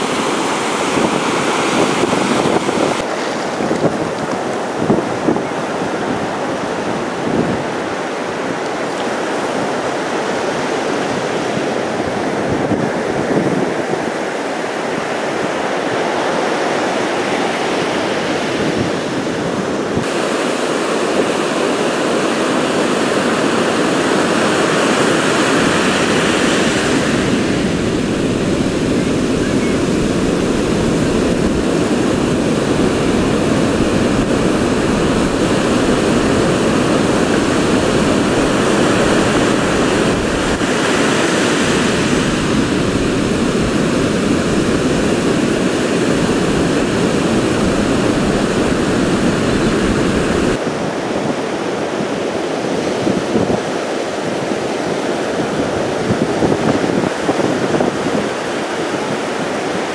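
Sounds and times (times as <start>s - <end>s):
heavy surf breaking on beach: 0.0s - 59.9s.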